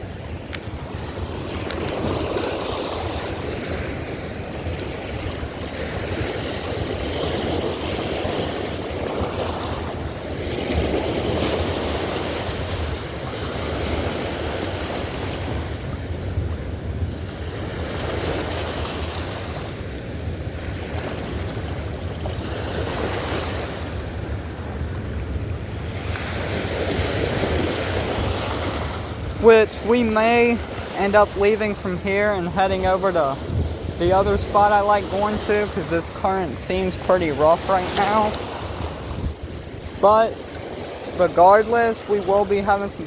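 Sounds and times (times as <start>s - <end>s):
river current rushing: 0.0s - 20.0s, 20.8s - 43.0s.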